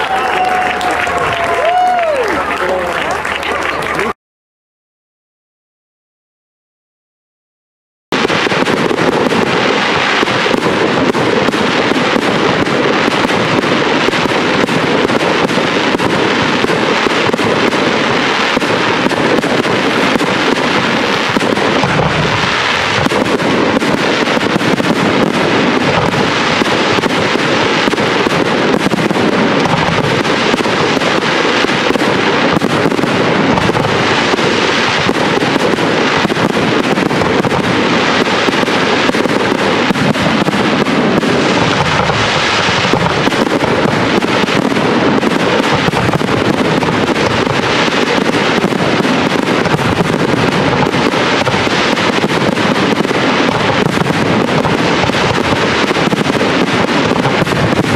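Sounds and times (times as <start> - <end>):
fireworks bursting and crackling: 0.0 - 4.2, 8.1 - 57.9.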